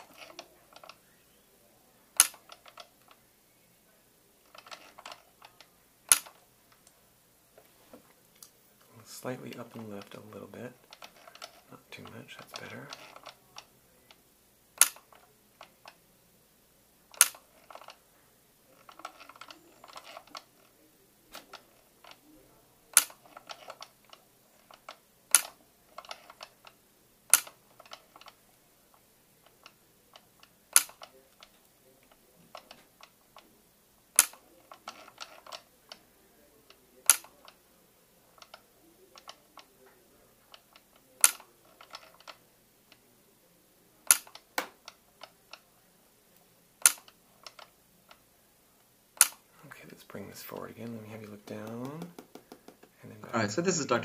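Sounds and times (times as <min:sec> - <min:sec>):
quiet clicks and tapping: 0:00.0 - 0:01.3, 0:02.1 - 0:03.3, 0:03.9 - 0:14.2, 0:14.8 - 0:16.0, 0:17.1 - 0:53.2.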